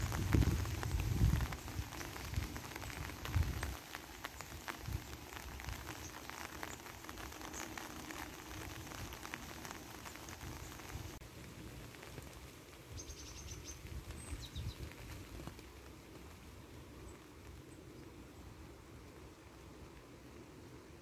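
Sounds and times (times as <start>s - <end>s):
wind rumble on microphone: 0.0s - 18.8s
rain falling on a pond: 0.0s - 21.0s.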